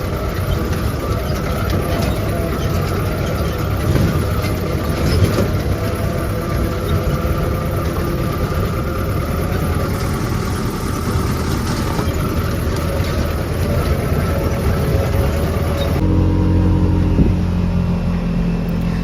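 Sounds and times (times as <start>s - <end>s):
road rumble: 0.0s - 19.0s
vehicle engine running: 0.0s - 19.0s.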